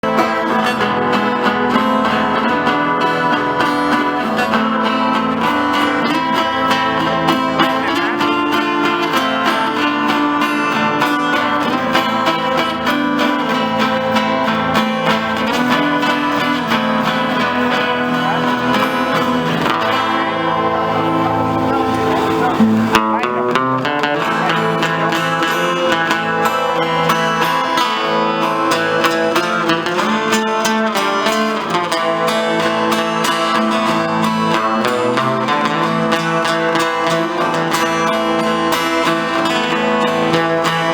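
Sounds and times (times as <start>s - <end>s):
acoustic guitar music: 0.0s - 40.9s.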